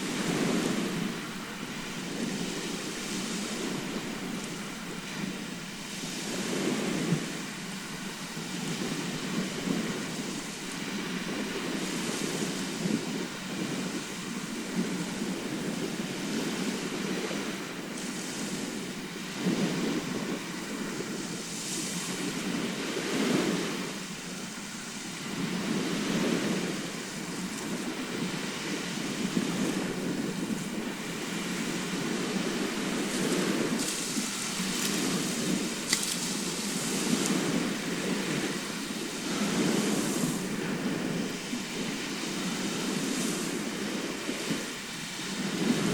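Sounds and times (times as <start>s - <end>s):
waves breaking on shore: 0.0s - 45.9s.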